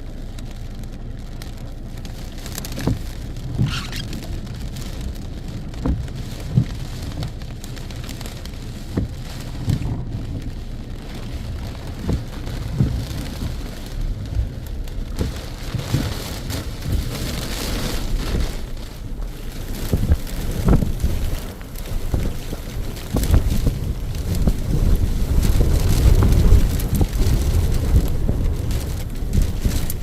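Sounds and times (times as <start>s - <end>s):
heavy rain in wind: 0.0s - 30.0s.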